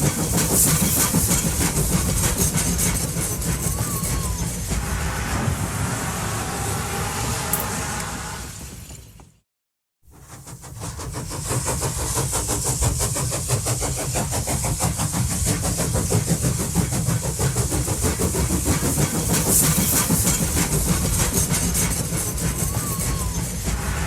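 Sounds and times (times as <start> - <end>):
train running rhythmic beat: 0.0 - 5.9, 10.1 - 24.0.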